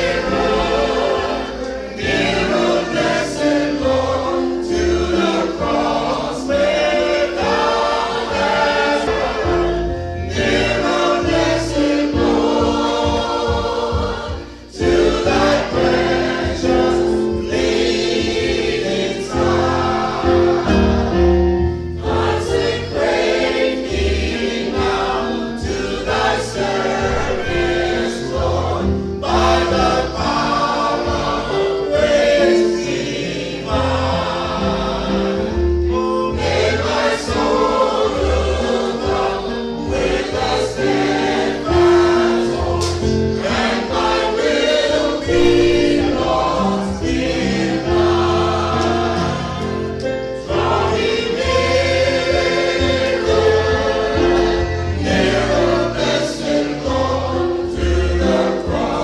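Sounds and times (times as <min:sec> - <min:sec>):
choir singing a hymn: 0:00.0 - 0:59.0
instrumental accompaniment with bass: 0:00.0 - 0:59.0.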